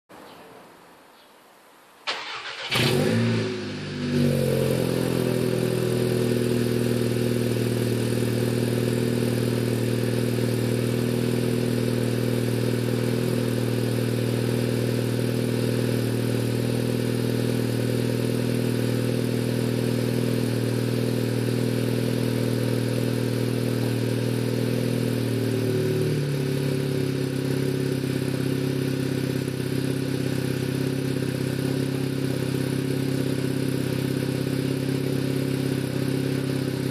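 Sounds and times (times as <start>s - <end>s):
car engine starting and idling: 2.0s - 36.9s.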